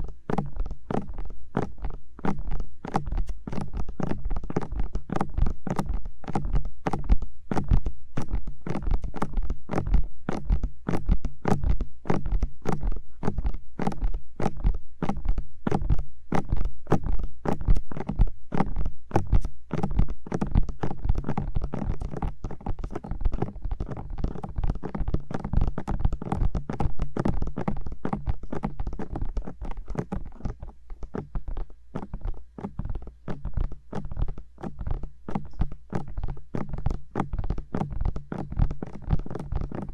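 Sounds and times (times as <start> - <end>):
fingers tapping on microphone: 0.0 - 39.9.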